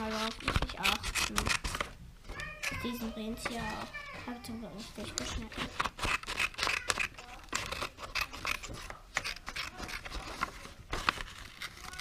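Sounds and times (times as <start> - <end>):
scissors snipping paper: 0.0 - 3.8, 4.9 - 12.0
paper rustling: 0.0 - 12.0.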